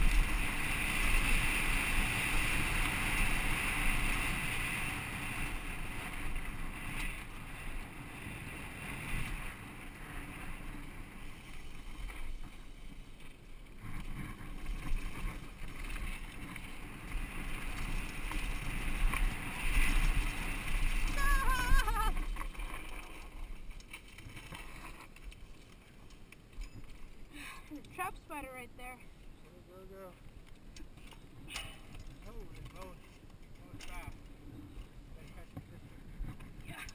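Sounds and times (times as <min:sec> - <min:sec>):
bike tyres rumbling and rattling: 0:00.0 - 0:29.4, 0:30.0 - 0:36.9.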